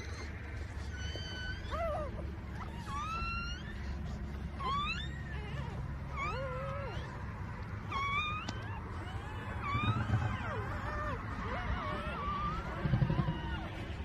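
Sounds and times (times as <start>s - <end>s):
puppy squealing whines: 0.0s - 14.0s
steady low hum: 0.0s - 14.0s.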